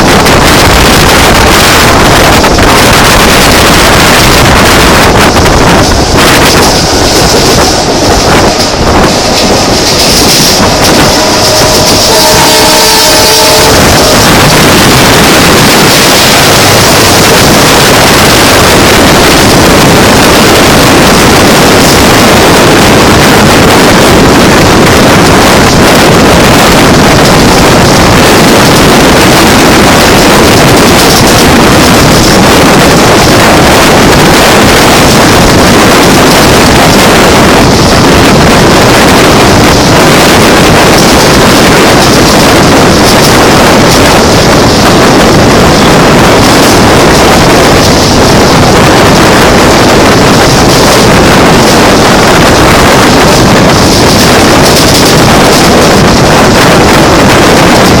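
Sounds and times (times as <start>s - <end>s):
trains running: 0.0s - 58.0s
wind on microphone: 0.0s - 58.0s.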